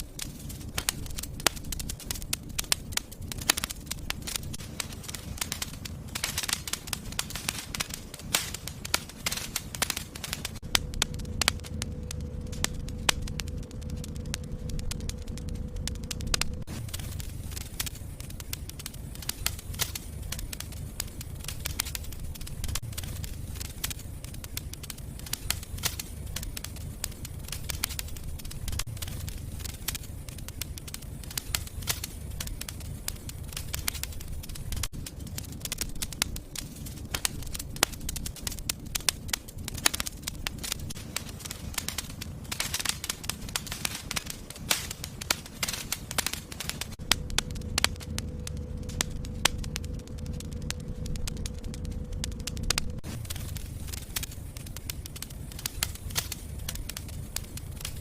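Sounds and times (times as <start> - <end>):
fire crackling pops and snaps: 0.0 - 58.0
low rumble of flames: 0.0 - 58.0.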